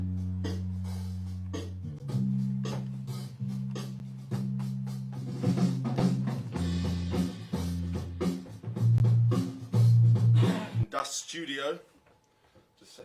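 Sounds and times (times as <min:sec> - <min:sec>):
low guitar chords: 0:00.0 - 0:10.5
drum kit: 0:00.0 - 0:10.9.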